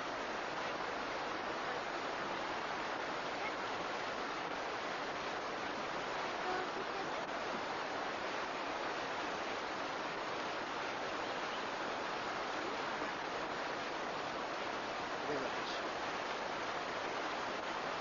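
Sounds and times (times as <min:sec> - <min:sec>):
water rushing in heavy rain: 0:00.0 - 0:18.0.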